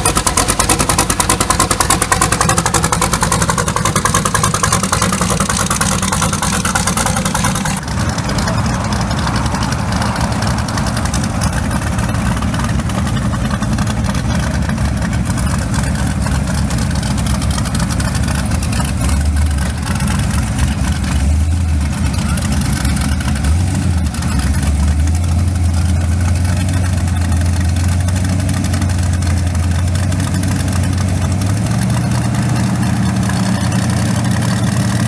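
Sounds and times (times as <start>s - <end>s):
engine popping: 0.0s - 35.0s
race truck engine rumbling: 0.0s - 35.0s.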